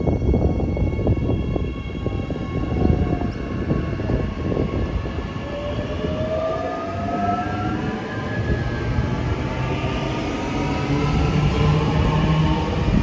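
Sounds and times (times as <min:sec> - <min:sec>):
wheels rumbling on rails: 0:00.0 - 0:13.0.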